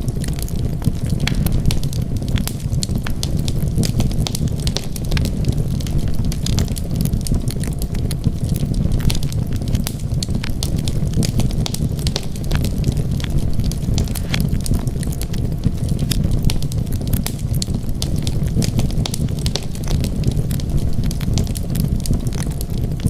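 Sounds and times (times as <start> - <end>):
fire rumbling: 0.0 - 23.0
wood crackling and popping: 0.0 - 23.0.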